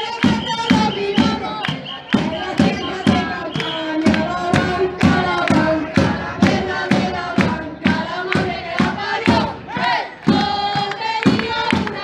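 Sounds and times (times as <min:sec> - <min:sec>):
crowd chanting: 0:00.0 - 0:12.0
hand claps: 0:00.0 - 0:12.0
snare and bass drums: 0:00.0 - 0:12.0.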